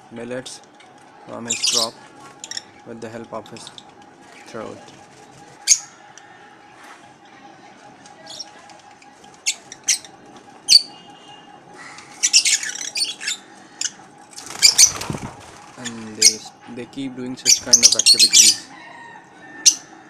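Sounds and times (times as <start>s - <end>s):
lovebirds chirping and squawking: 0.0s - 20.0s.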